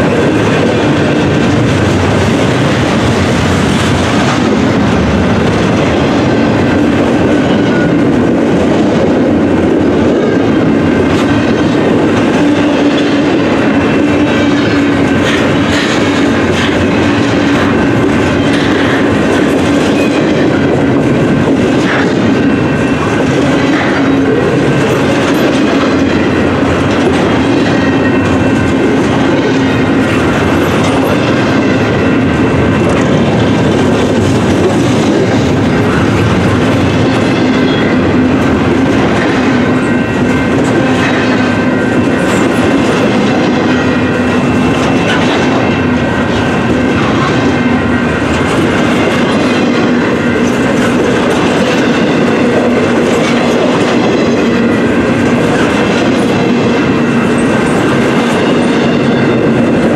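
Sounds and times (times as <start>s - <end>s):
train cars clattering: 0.0s - 59.9s
train wheels rumbling on rail: 0.0s - 59.9s.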